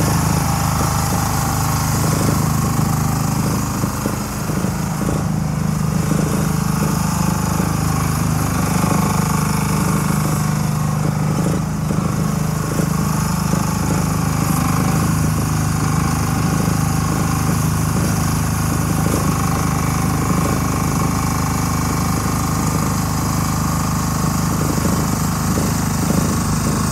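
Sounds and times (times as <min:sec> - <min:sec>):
small excavator engine running: 0:00.0 - 0:26.9.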